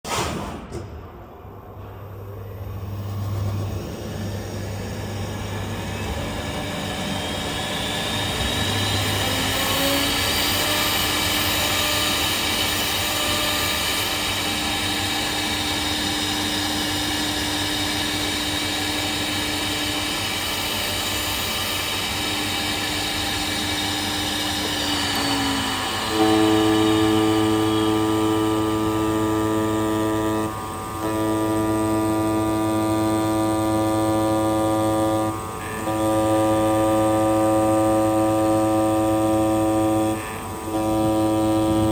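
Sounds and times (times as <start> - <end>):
motor hum: 2.0 - 41.9
cutting machine whine: 2.2 - 41.9.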